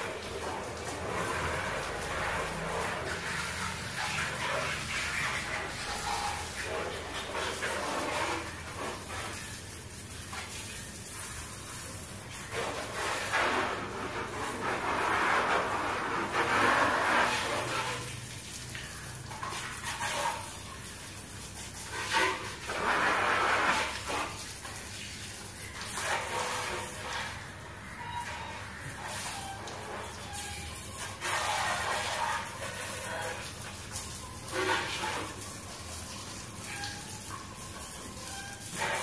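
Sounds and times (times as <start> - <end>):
hose water jet splashing: 0.0 - 39.0.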